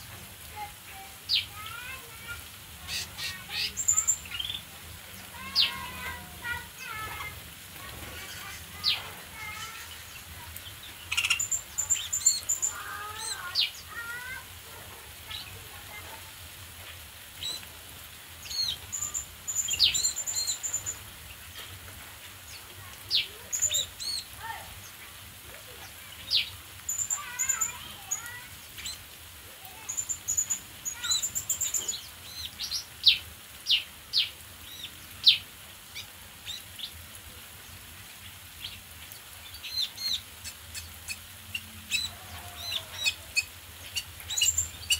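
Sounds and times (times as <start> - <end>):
small birds chirping: 0.4 - 14.5, 15.2 - 16.2, 16.8 - 44.9.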